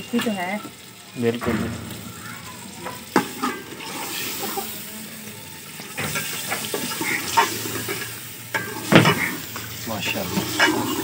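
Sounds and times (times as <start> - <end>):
chicken sizzling in a pot: 0.0 - 11.0.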